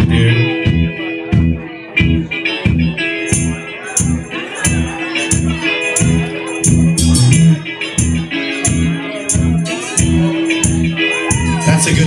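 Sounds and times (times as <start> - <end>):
rock band playing: 0.0 - 12.0.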